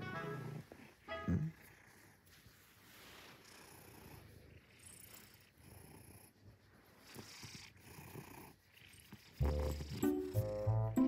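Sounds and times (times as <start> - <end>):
cat purring: 0.2 - 11.0.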